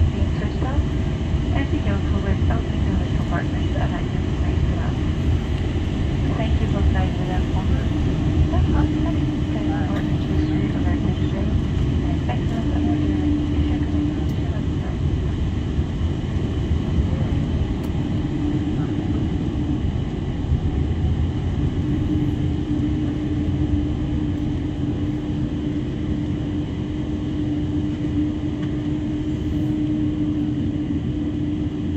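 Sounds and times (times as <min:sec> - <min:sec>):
aircraft cabin rumble: 0:00.0 - 0:31.9
steady hum: 0:00.0 - 0:31.9.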